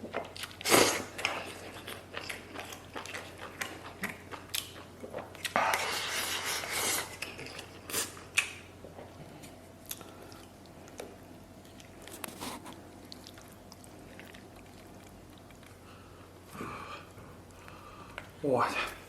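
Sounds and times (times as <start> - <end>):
man chewing food: 0.0 - 18.4.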